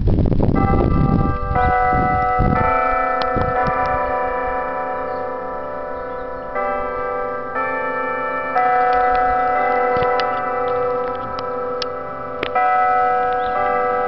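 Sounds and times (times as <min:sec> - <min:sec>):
church bells ringing: 0:00.5 - 0:14.0.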